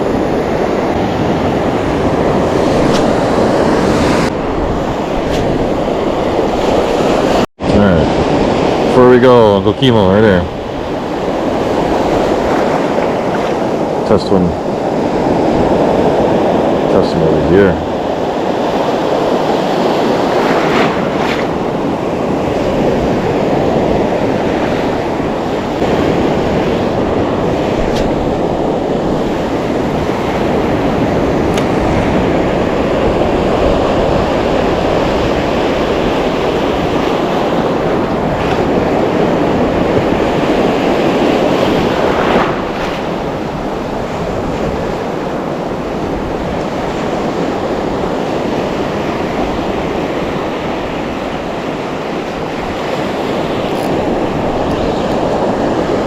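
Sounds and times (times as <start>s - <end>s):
wind buffeting microphone: 0.0s - 9.3s, 10.3s - 56.0s
surf breaking on rocks: 0.0s - 9.4s, 17.5s - 56.0s.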